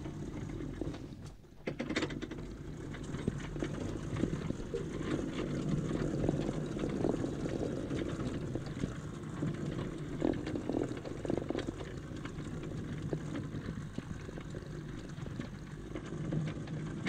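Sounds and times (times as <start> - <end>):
wheels clicking on rail joints: 0.0 - 17.0
train wheels rumbling on track: 2.2 - 17.0.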